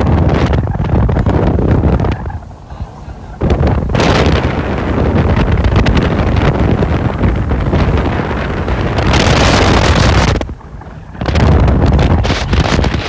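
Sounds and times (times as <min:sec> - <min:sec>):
speedboat running: 0:00.0 - 0:13.0
wind buffeting microphone: 0:00.0 - 0:13.0.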